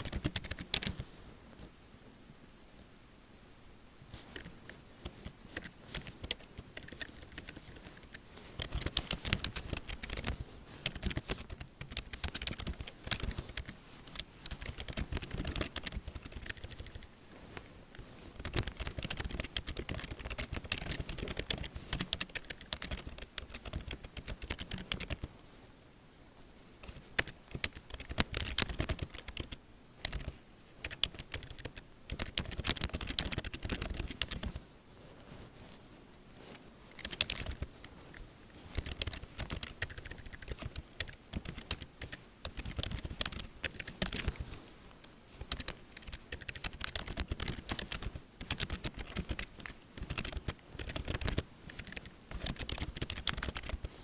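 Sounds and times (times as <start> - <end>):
keyboard typing: 0.0 - 1.1, 4.3 - 25.3, 26.9 - 34.6, 36.9 - 44.5, 45.4 - 54.0
separate keyboard clicks: 0.0 - 1.1, 4.4 - 17.1, 18.4 - 25.3, 26.9 - 34.6, 37.0 - 44.5, 45.4 - 54.0.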